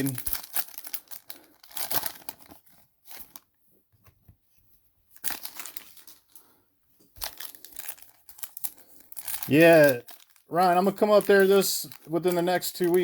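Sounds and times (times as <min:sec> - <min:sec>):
plastic packaging crinkling: 0:00.0 - 0:03.6, 0:05.2 - 0:06.5, 0:07.1 - 0:13.0.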